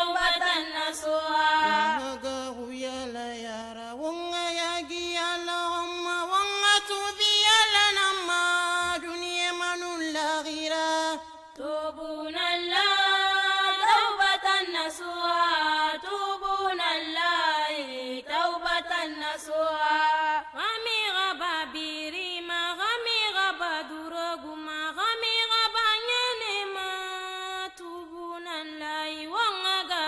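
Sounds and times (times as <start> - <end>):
person chanting devotional song: 0.0 - 30.0.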